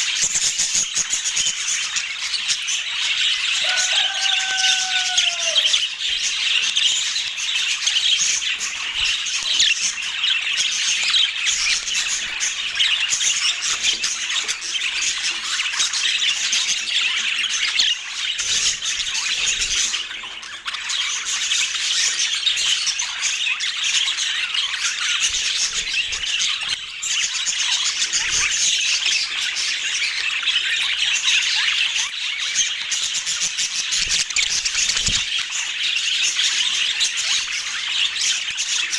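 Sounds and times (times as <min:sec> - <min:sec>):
budgerigars chattering and squawking: 0:00.0 - 0:38.9.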